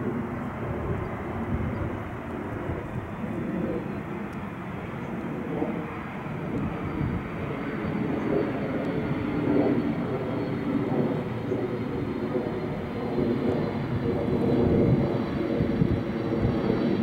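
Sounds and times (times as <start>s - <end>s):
jet engines rumbling with whine: 0.0s - 17.0s.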